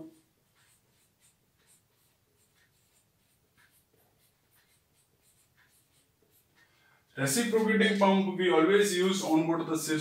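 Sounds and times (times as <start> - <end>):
marker pen squeaking on whiteboard: 0.0 - 8.2.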